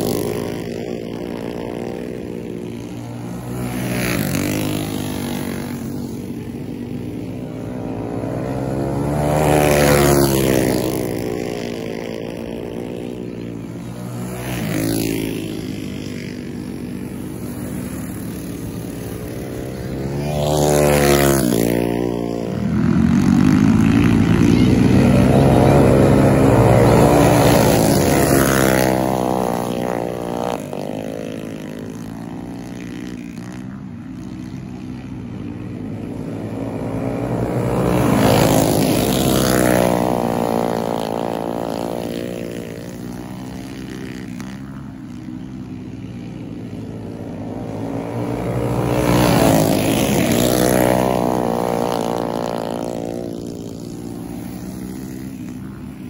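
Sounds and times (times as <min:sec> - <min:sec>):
go-kart engines buzzing: 0:00.0 - 0:56.0.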